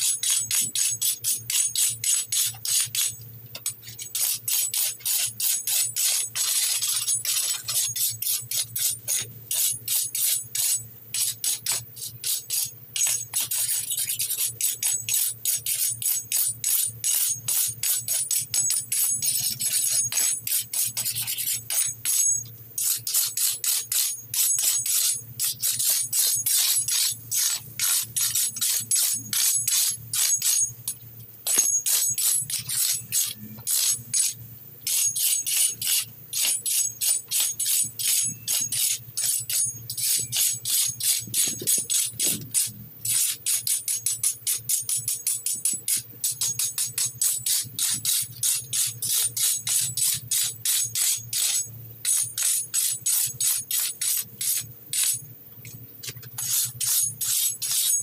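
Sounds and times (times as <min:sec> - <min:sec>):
weeding blade scraping brick joints: 0:00.0 - 0:58.0.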